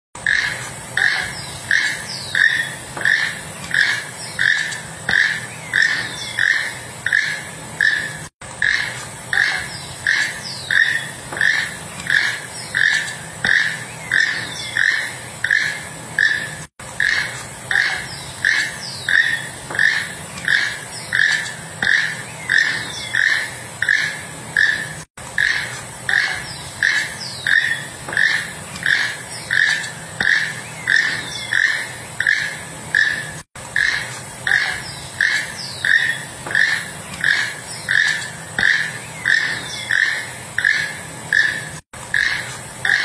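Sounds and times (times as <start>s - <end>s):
toucan croaking: 0.2s - 43.0s.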